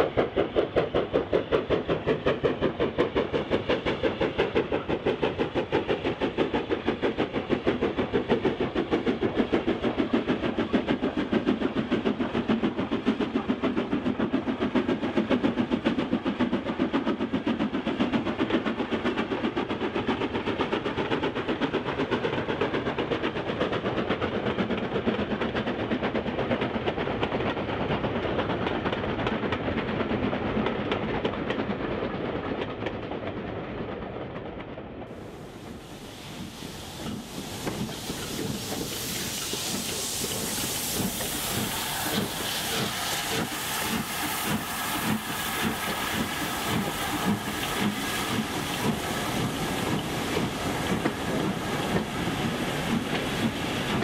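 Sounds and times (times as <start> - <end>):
steam locomotive chuffing: 0.0 - 54.0.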